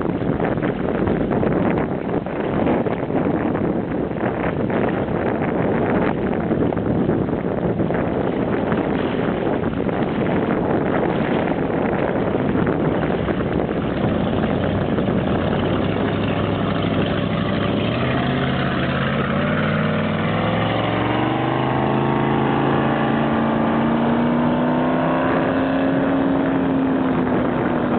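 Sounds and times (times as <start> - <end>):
boat engine running: 0.0 - 27.9
wind buffeting microphone: 0.0 - 27.9.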